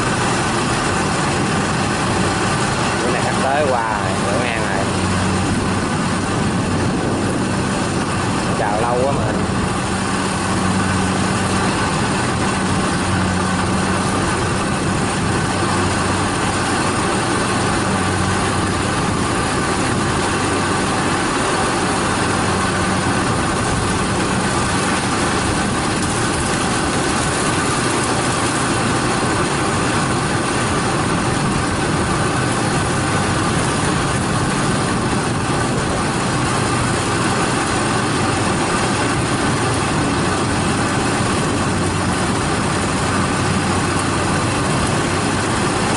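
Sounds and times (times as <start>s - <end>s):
harvester engines droning: 0.0s - 45.9s
low hum: 0.0s - 45.9s.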